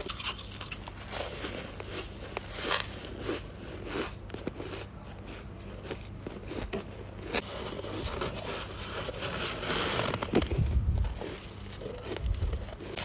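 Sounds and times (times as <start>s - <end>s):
crunching bites of frost: 0.0s - 13.0s.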